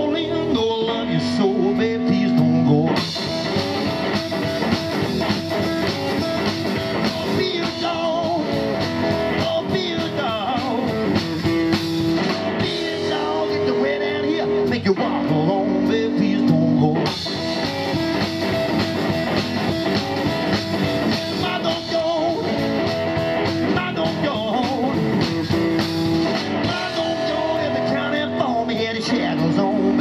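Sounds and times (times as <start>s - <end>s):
drum kit: 0.0s - 30.0s
electric bass: 0.0s - 30.0s
electric guitar: 0.0s - 30.0s.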